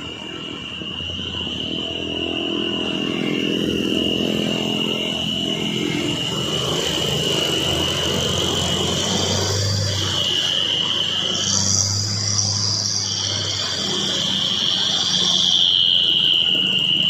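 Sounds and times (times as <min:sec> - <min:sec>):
dump truck diesel engine under load: 0:00.0 - 0:17.0
high-pitched drone: 0:00.0 - 0:17.0.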